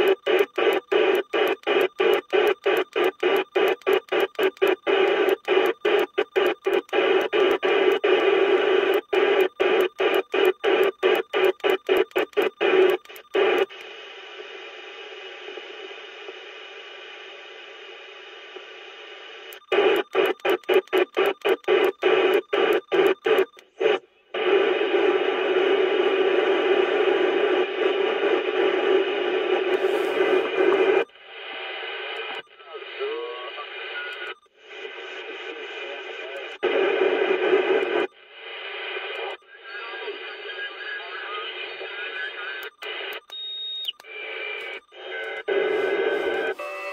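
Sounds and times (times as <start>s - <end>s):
radio static chopping on and off: 0.0s - 17.0s, 18.5s - 46.9s
radio static hiss: 0.0s - 43.2s, 44.0s - 46.9s.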